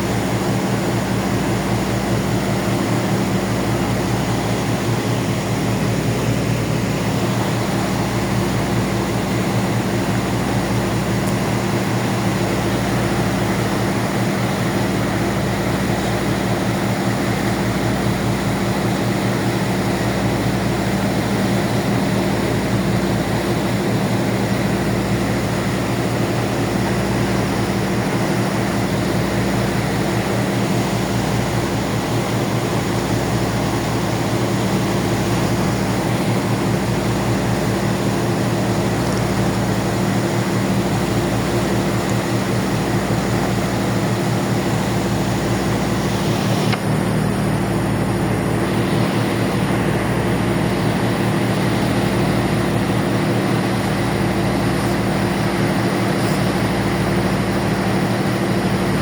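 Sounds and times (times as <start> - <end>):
ferry engines droning: 0.0 - 59.0.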